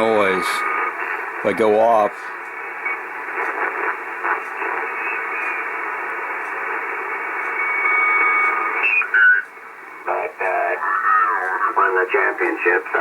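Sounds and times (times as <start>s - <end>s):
interfering radio noise: 0.0s - 13.0s
radio static and hiss: 0.0s - 13.0s.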